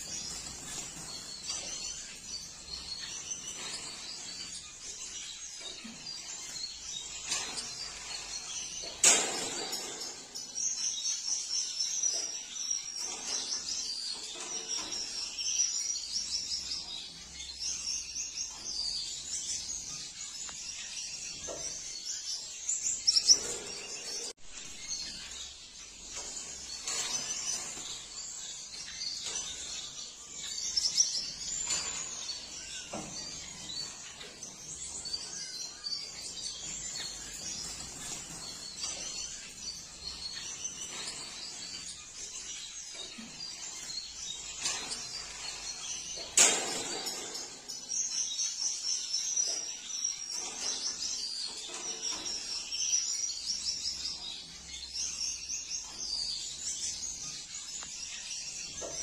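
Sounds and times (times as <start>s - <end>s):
finches chirping and calling: 0.0s - 59.0s.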